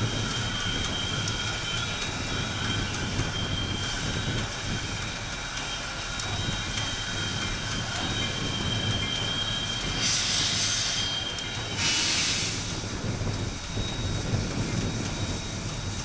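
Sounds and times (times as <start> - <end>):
high-pitched ringing tones: 0.0 - 16.0
steam locomotive rumble: 0.0 - 16.0.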